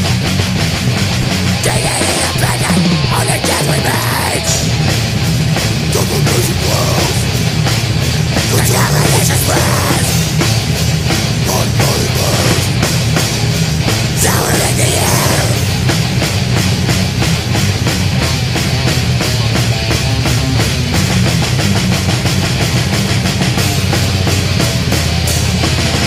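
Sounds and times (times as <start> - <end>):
distorted guitars: 0.0 - 26.0
fast dense drumming: 0.0 - 26.0.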